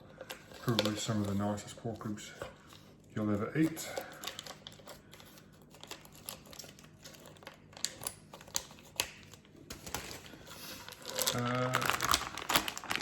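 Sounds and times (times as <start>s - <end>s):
plastic bag crinkling: 0.4s - 2.2s, 3.2s - 13.0s.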